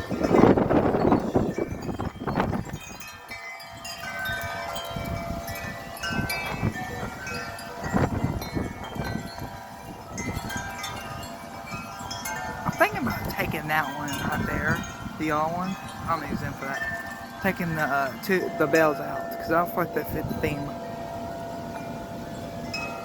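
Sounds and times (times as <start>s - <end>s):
wind chimes ringing: 0.0s - 23.0s
wind rumble on microphone: 0.0s - 23.0s.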